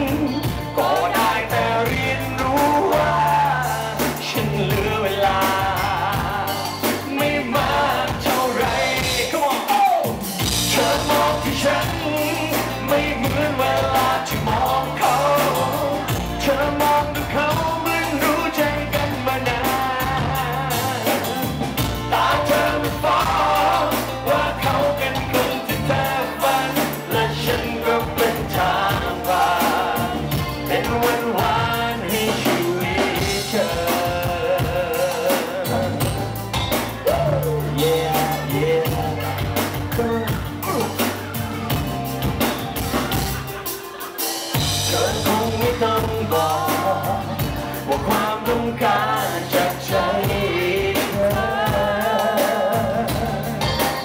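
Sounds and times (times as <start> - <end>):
man singing into a microphone: 0.0 - 41.3, 44.5 - 54.0
bass line: 0.0 - 54.0
drums: 0.0 - 54.0.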